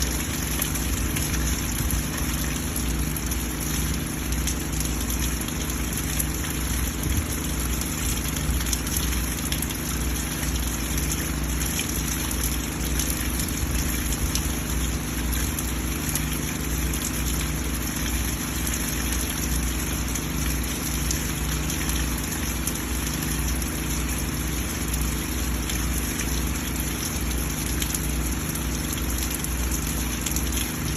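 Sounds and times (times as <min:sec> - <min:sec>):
rainwater pouring off rain chain: 0:00.0 - 0:30.9
water drips: 0:00.0 - 0:30.9.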